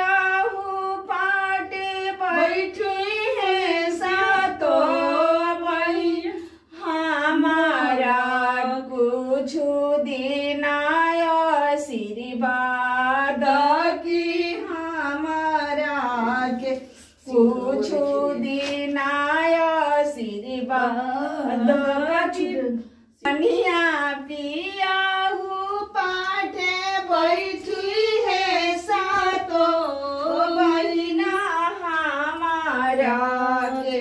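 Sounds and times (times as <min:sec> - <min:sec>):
women singing unaccompanied: 0:00.0 - 0:34.0.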